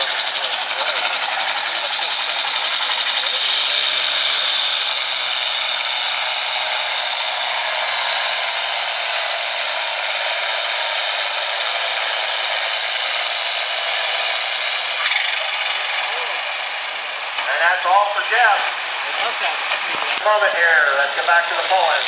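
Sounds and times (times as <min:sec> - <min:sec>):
tractor diesel engine roaring: 0:00.0 - 0:22.0.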